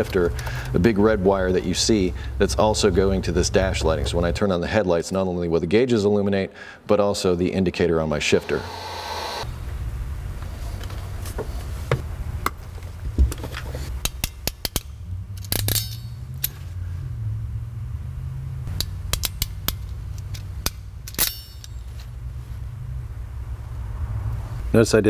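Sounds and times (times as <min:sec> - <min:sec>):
low hum: 0:00.0 - 0:04.4, 0:08.3 - 0:24.7.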